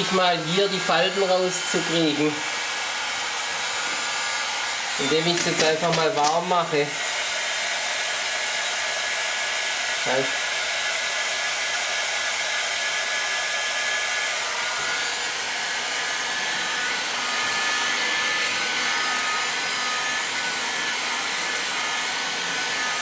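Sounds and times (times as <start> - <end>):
hot-air blower running: 0.0 - 23.0.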